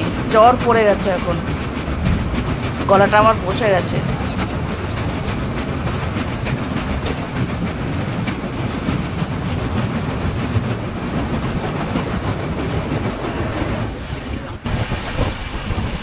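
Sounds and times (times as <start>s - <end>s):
faint clatter: 0.0s - 14.6s
train wheels rumbling on rail: 0.0s - 16.0s.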